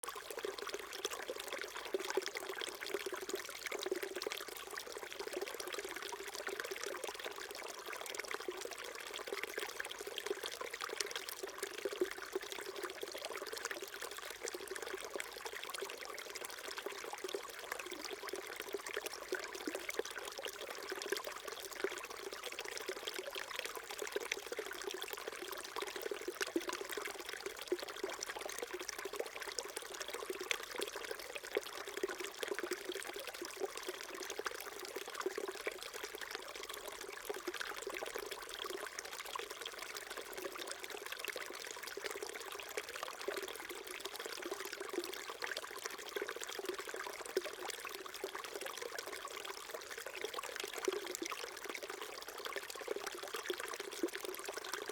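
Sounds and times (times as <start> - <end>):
stream trickling over stones: 0.0 - 54.9.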